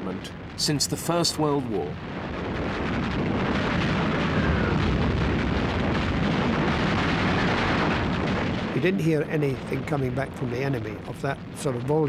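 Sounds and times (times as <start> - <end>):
artillery barrage: 1.9 - 11.9.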